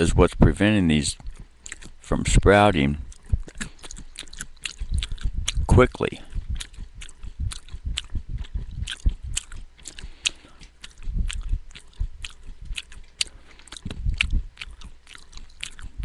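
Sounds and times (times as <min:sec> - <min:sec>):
crunchy chewing: 0:01.0 - 0:16.0.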